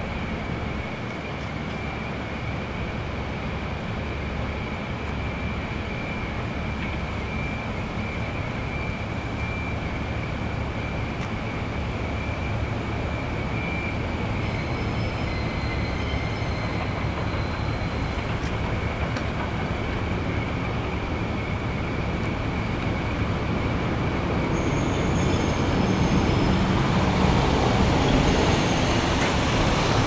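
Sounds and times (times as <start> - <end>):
distant diesel locomotive rumble: 0.0 - 30.0.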